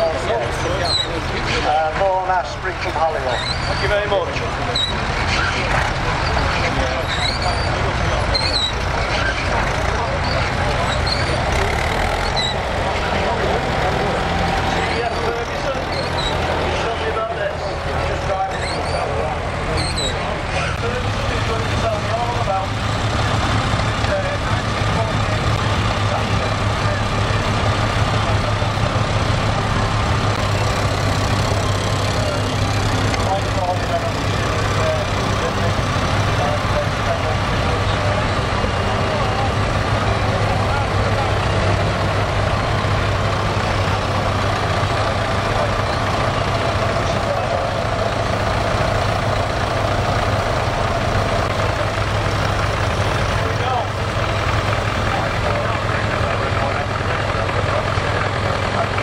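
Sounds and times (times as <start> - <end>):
other tractor engines: 0.0 - 59.0
tractor engine running: 0.0 - 59.0.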